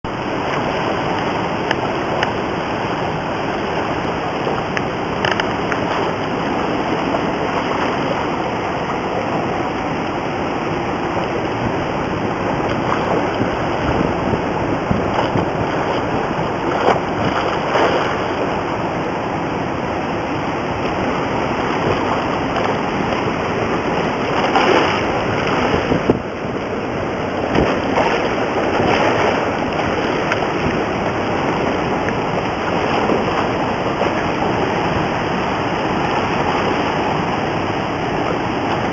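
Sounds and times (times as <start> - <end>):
churning whitewater: 0.0 - 38.9
rushing water through spillway: 0.1 - 38.9.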